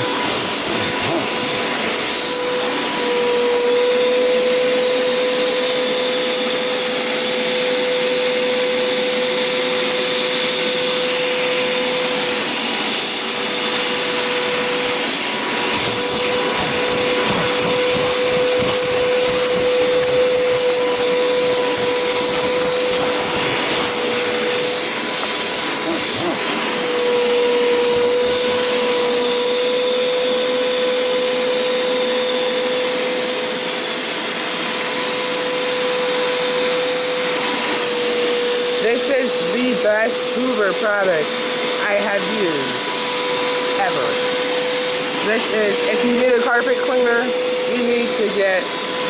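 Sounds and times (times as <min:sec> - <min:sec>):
carpet cleaner motor whine: 0:00.0 - 0:49.0.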